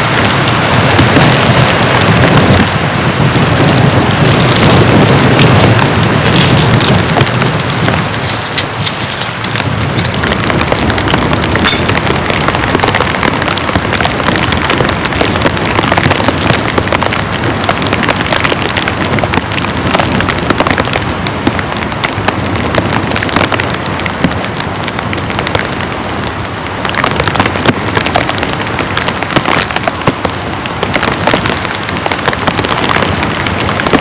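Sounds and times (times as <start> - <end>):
heavy rain: 0.0 - 34.0
patter of raindrops: 0.0 - 34.0.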